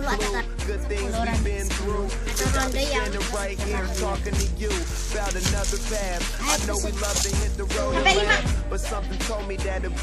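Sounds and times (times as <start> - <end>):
rapping over hip-hop beat: 0.0 - 10.0.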